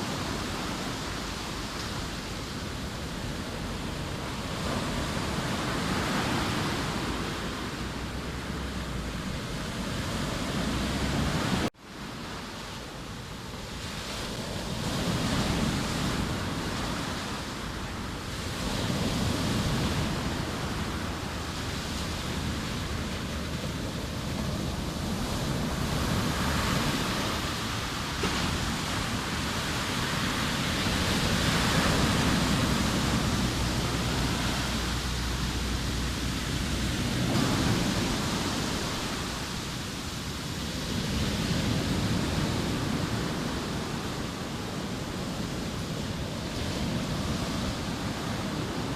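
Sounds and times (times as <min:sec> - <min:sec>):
sea waves breaking on shore: 0:00.0 - 0:48.9
wind on microphone: 0:00.0 - 0:48.9.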